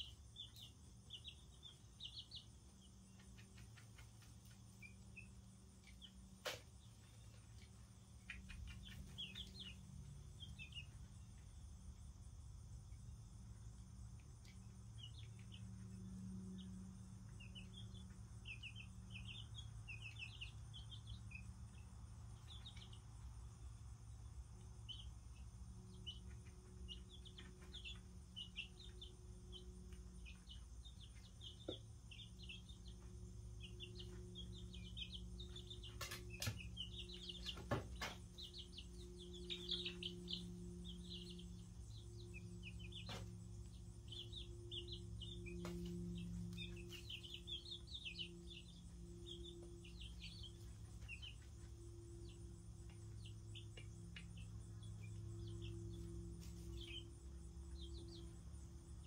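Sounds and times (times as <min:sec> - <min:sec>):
chicks peeping: 0:00.0 - 0:59.0
steady low hum: 0:00.0 - 0:59.0.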